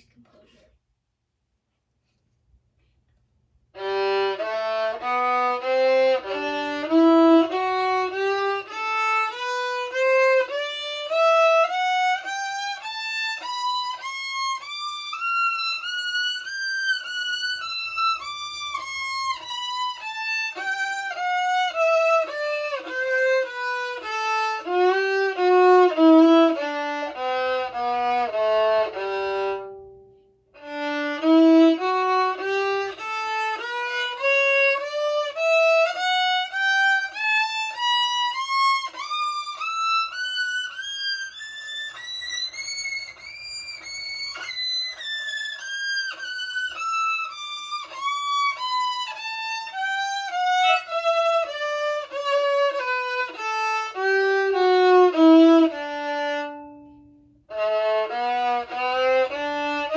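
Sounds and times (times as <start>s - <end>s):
solo violin playing scales: 3.8s - 59.9s.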